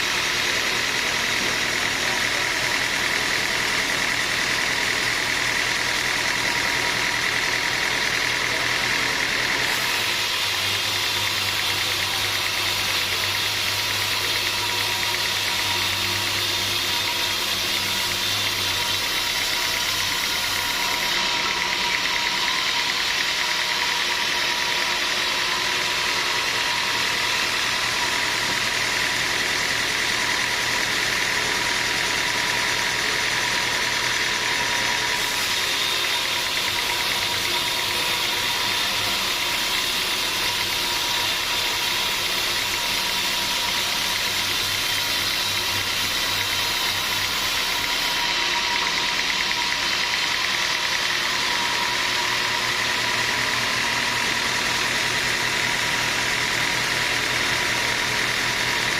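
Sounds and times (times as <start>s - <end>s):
sawmill machinery droning: 0.0s - 58.9s.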